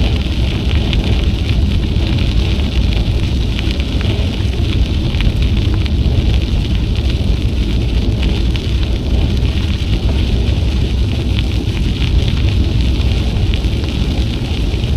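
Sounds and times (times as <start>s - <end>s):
crackling ticks from bike ride: 0.0s - 14.9s
wind buffeting microphone: 0.0s - 14.9s.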